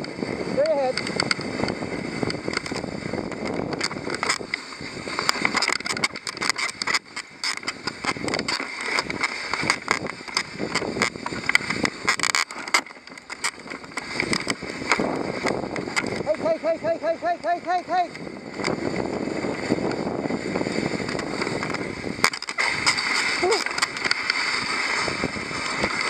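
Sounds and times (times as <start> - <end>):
sled clicks and knocks: 0.0 - 26.0
sled runners scraping on snow: 0.0 - 26.0.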